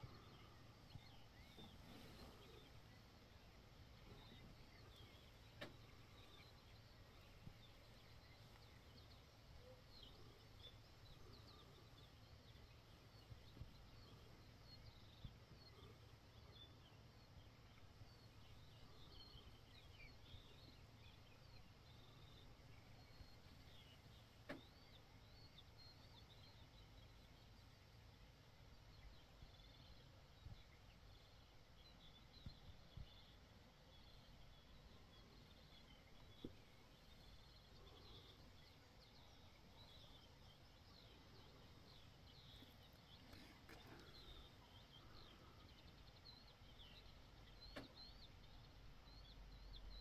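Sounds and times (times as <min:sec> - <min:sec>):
distant birdsong chirps: 0:00.0 - 0:50.0
low background hum: 0:00.0 - 0:50.0.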